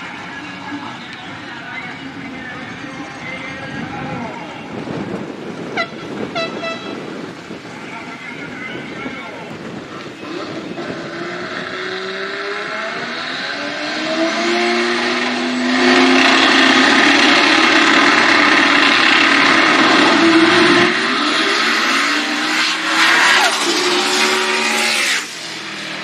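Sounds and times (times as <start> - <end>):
drag racing engines revving: 0.0 - 26.0.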